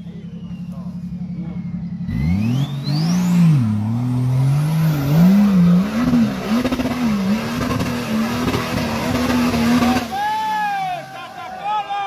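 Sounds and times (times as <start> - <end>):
engine revving: 0.0 - 10.8.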